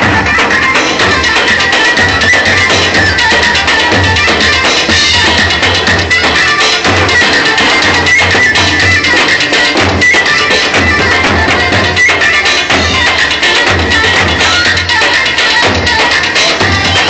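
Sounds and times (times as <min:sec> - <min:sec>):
high held melody: 0:00.0 - 0:17.0
steady drum beat: 0:00.0 - 0:17.0.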